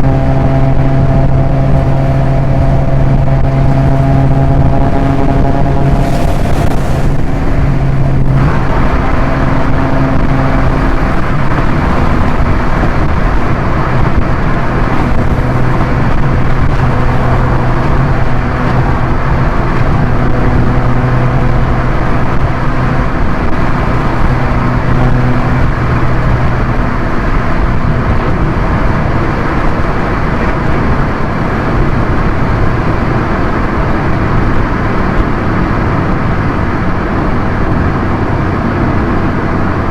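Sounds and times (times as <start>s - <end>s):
car engine droning: 0.0s - 39.9s
road and tyre noise: 0.0s - 39.9s.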